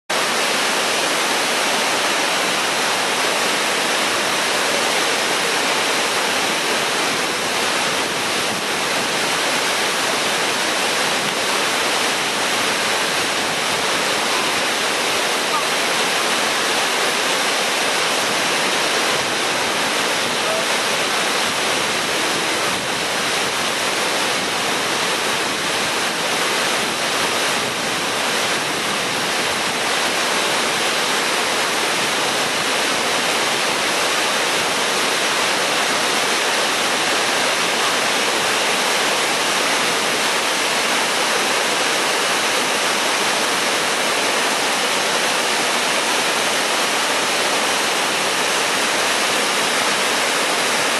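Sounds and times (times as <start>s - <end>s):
waterfall crashing on rocks: 0.1s - 50.9s.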